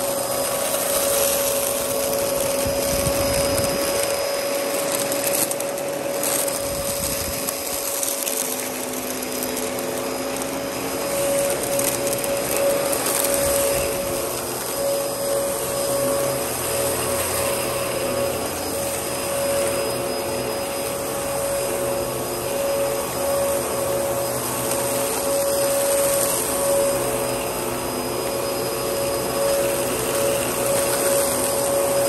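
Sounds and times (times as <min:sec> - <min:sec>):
vacuum cleaner motor whine: 0:00.0 - 0:32.0.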